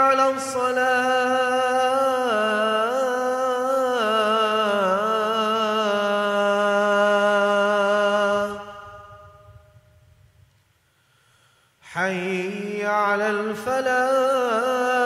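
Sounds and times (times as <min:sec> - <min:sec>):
man calling to prayer: 0:00.0 - 0:09.5, 0:11.9 - 0:15.0
echo in prayer hall: 0:00.0 - 0:15.0.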